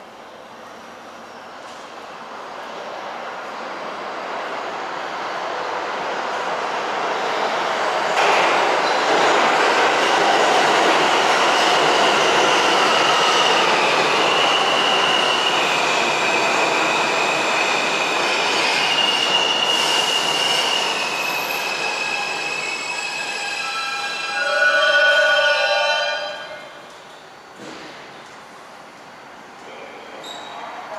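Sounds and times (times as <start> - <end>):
subway train rumble and rattle: 0.0 - 30.9.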